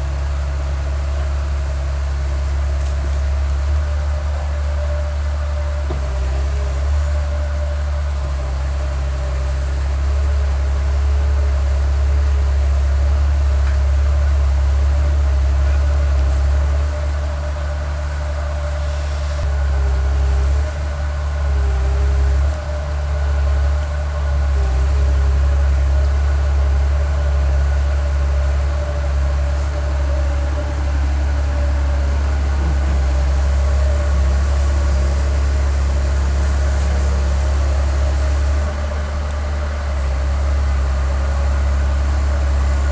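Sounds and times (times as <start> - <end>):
excavator diesel engine droning: 0.0 - 42.9.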